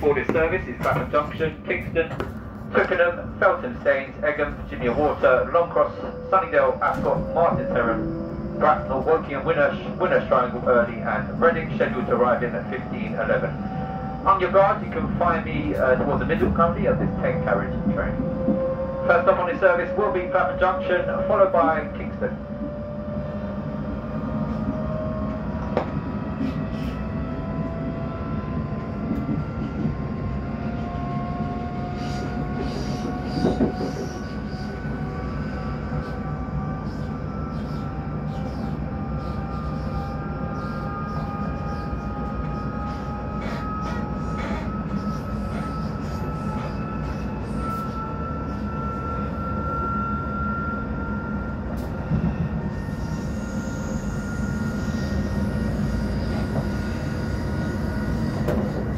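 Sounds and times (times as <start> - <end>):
train running noise: 0.0 - 58.9
train traction motors whining: 0.0 - 58.9.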